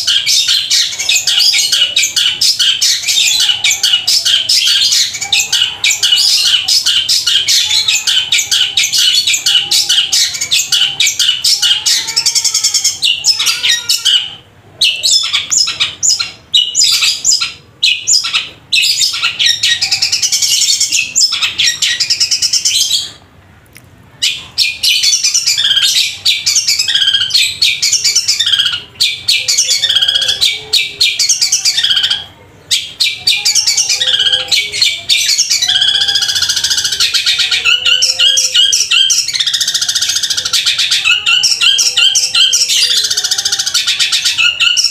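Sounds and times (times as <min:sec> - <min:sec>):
bird singing chirps and chatter: 0:00.0 - 0:23.4, 0:24.1 - 0:44.9.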